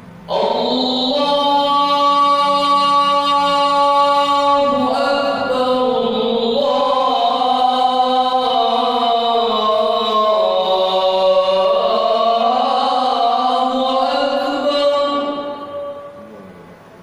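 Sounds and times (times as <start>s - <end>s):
man singing call to prayer: 0.2s - 16.6s.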